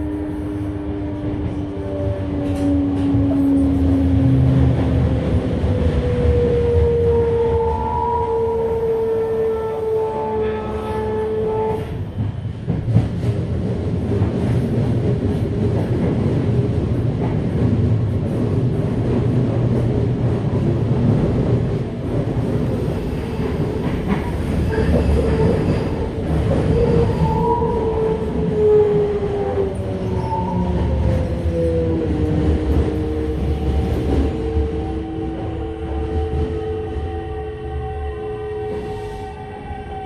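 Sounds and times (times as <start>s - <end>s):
train wheel and rail rumble: 0.0s - 40.0s.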